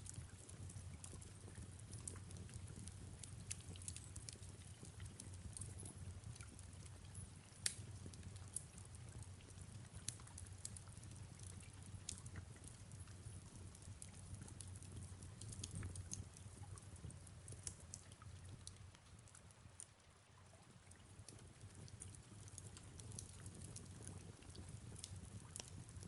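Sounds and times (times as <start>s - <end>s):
fireplace crackling and popping: 0.0s - 26.0s.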